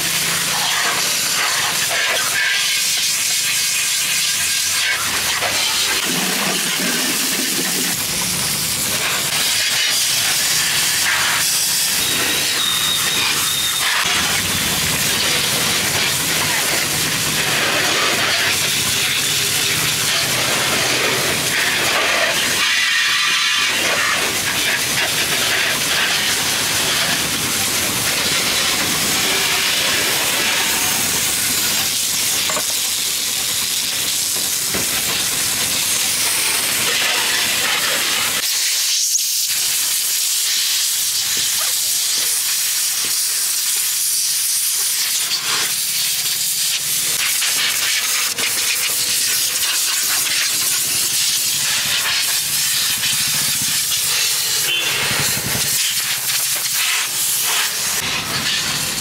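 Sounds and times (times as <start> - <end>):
pressure washer spraying water: 0.0 - 59.0.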